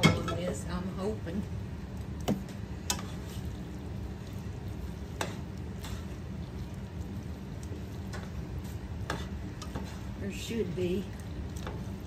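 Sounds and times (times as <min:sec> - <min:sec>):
low background hum: 0:00.0 - 0:12.0
utensil stirring food in skillet: 0:00.0 - 0:12.0.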